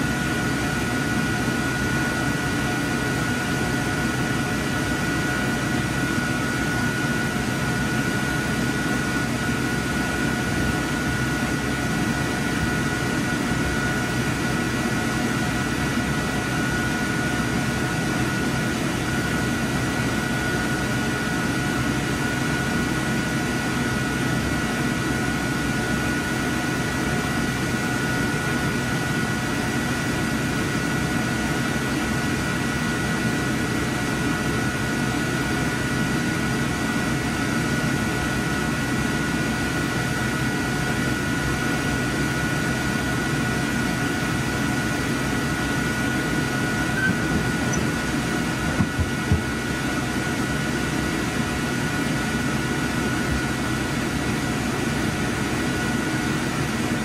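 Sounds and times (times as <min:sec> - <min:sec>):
constant high whine: 0:00.0 - 0:57.0
fans and equipment humming: 0:00.0 - 0:57.0.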